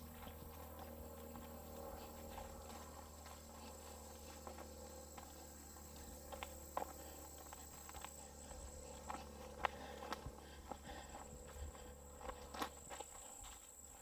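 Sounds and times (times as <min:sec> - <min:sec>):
footsteps on dry ground: 0:00.0 - 0:14.0
high-pitched insect drone: 0:00.0 - 0:14.0.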